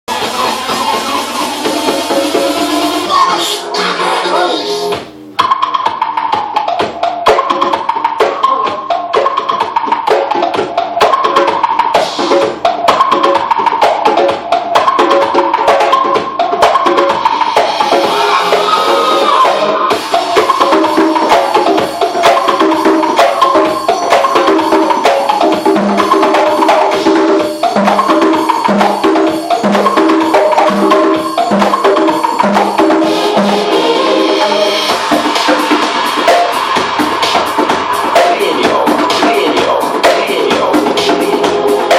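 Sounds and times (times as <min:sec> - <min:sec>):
deep drum beat: 0:00.1 - 0:03.4, 0:04.9 - 0:41.9
fast pitched percussion: 0:00.1 - 0:41.9.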